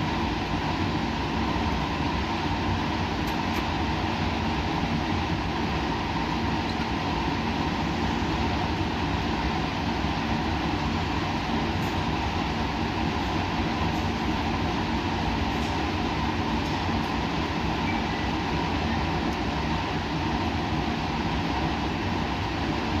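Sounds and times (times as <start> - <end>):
white noise: 0.0 - 23.0.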